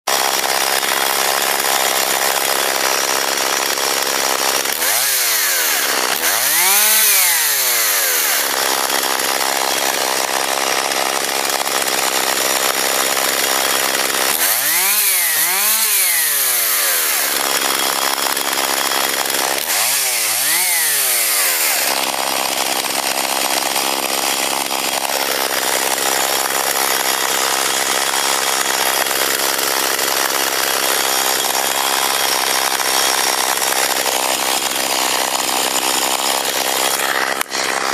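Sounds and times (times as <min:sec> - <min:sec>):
chainsaw engine idling and revving: 0:00.0 - 0:37.9.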